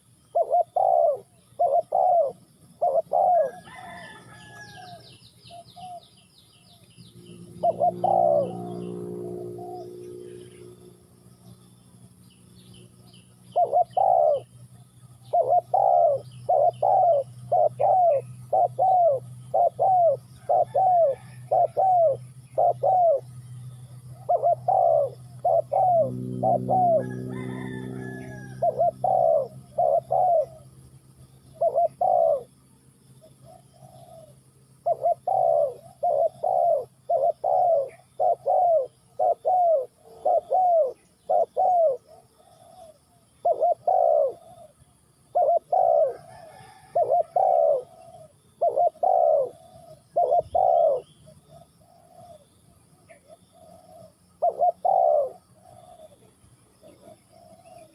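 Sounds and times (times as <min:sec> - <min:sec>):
doves cooing: 0:00.0 - 0:06.1, 0:07.2 - 0:12.2, 0:13.3 - 0:32.6, 0:33.2 - 0:57.9
low steady hum: 0:00.0 - 0:57.9.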